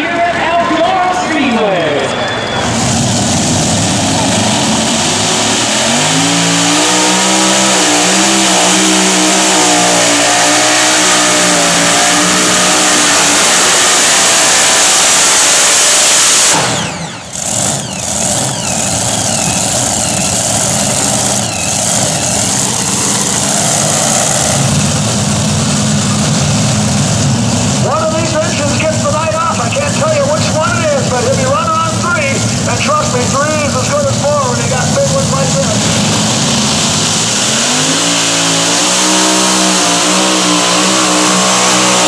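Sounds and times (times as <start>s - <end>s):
falling whine: 0.0s - 42.0s
pulling tractor engines running hard: 0.0s - 42.0s.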